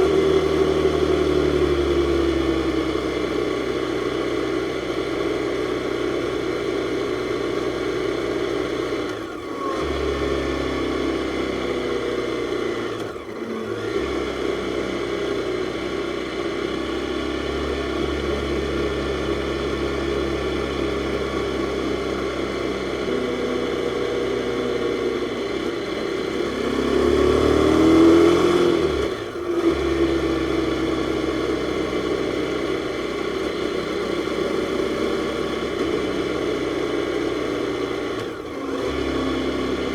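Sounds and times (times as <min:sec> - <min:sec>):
motorcycle engine running: 0:00.0 - 0:09.0, 0:10.4 - 0:39.9.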